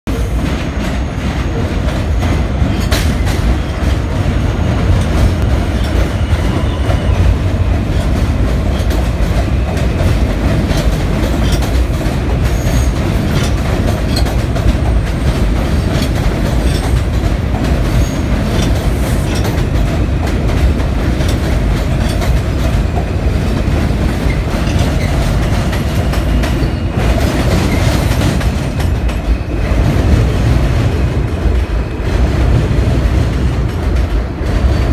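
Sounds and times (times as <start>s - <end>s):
clickety-clack over rail joints: 0.1s - 34.9s
train wheels rumbling on rails: 0.1s - 34.9s.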